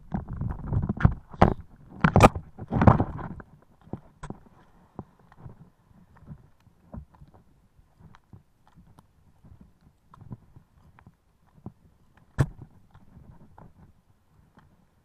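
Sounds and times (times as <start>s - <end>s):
faint clicks and knocks: 0.0s - 15.0s.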